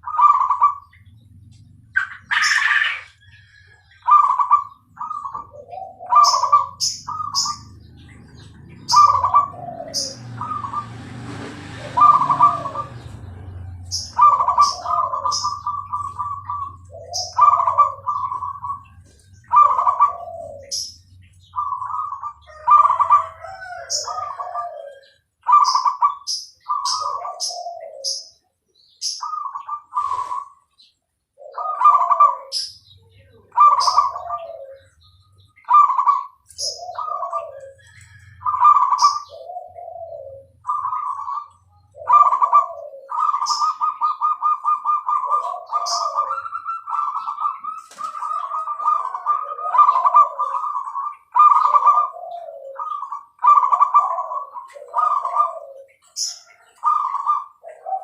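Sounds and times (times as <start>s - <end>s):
doves cooing: 0.0s - 58.0s
small birds chirping: 0.0s - 58.0s.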